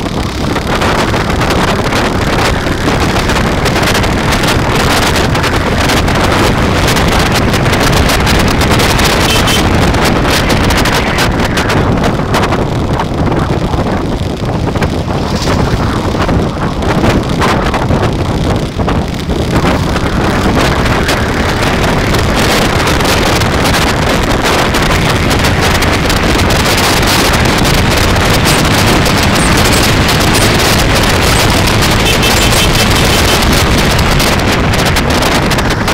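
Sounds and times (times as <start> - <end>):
road and vehicle noise: 0.0 - 35.9
wind rush on microphone: 0.0 - 35.9.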